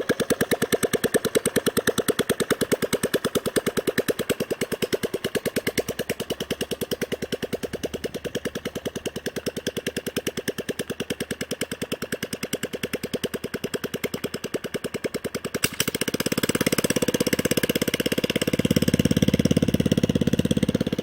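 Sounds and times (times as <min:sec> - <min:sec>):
gas engine running at low speed: 0:00.0 - 0:21.0.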